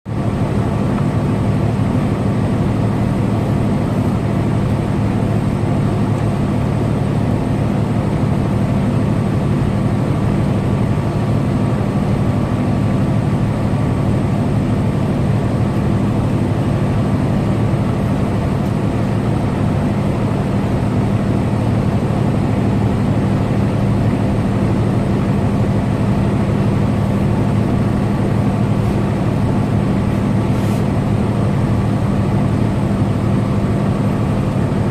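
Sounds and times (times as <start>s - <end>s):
truck engine and tyres droning: 0.1s - 34.9s.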